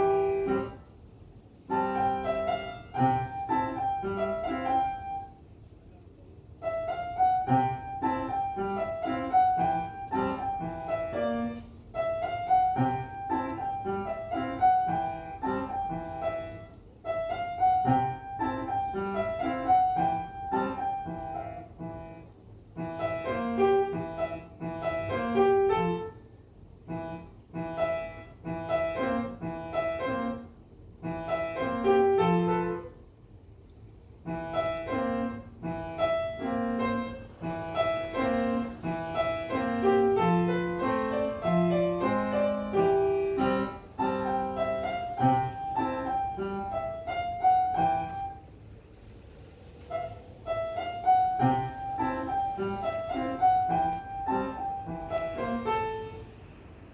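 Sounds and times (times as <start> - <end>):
solo piano music: 0.0 - 56.9.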